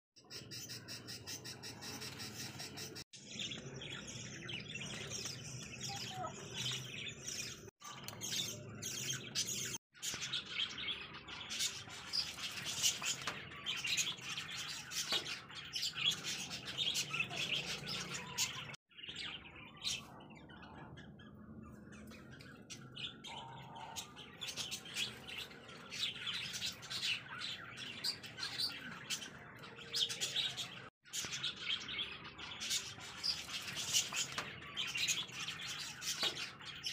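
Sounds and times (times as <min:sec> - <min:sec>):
cage birds chirping: 0:00.2 - 0:36.9.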